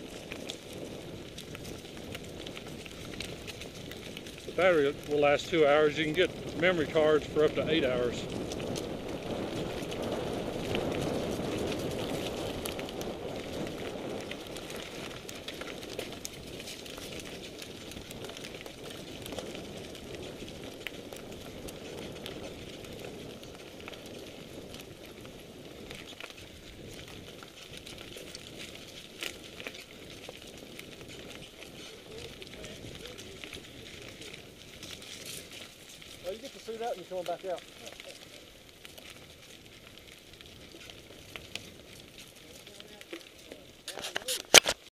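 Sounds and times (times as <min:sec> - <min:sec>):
bike clicks and rattles: 0:00.0 - 0:44.9
tyres rolling over dirt and stones: 0:00.0 - 0:44.9.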